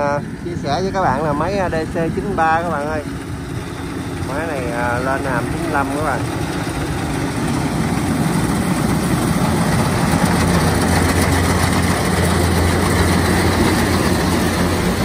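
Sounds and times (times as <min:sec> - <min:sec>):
combine harvester engine and machinery: 0:00.0 - 0:15.0.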